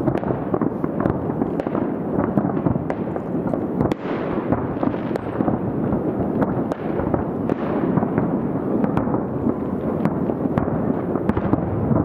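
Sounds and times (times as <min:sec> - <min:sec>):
distant fireworks rumble: 0:00.0 - 0:12.0
sharp firework cracks: 0:00.0 - 0:12.0.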